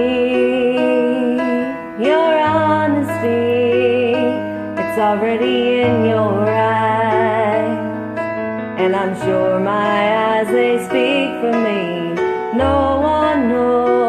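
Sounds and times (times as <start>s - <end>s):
woman singing with vibrato: 0.0s - 8.1s, 8.8s - 14.0s
karaoke backing track: 0.0s - 14.0s.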